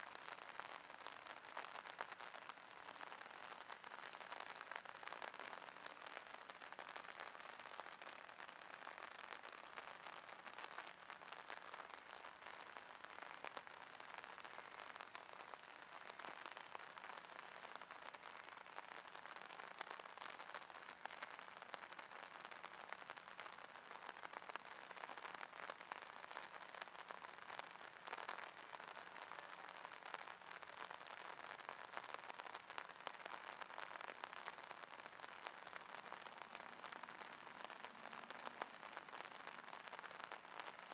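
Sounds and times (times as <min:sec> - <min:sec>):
light rain falling: 0:00.0 - 0:40.9.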